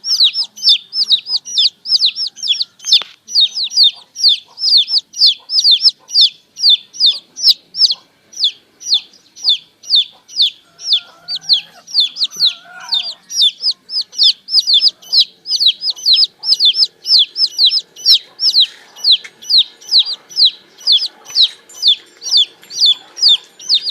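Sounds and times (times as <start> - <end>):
baby chicks peeping: 0.0 - 23.9
lower gliding calls: 4.7 - 23.9.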